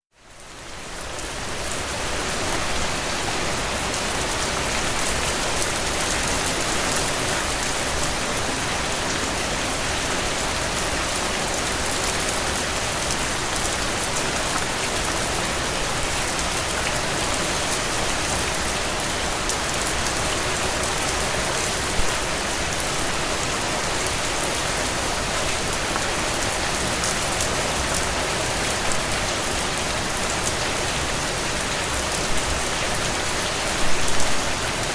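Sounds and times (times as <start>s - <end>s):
steady rain patter: 0.2s - 34.9s.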